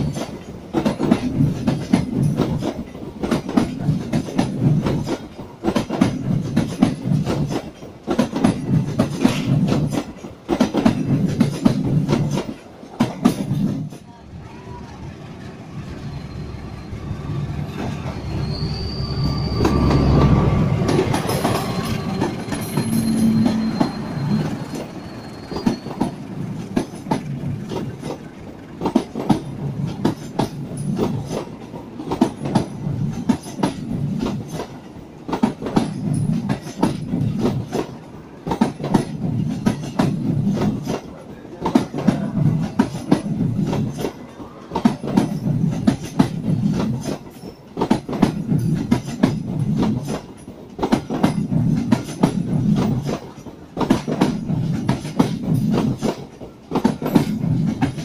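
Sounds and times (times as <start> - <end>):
wheels clacking over rail joints: 0.0 - 14.2, 19.5 - 58.0
train wheels rumbling: 0.0 - 58.0.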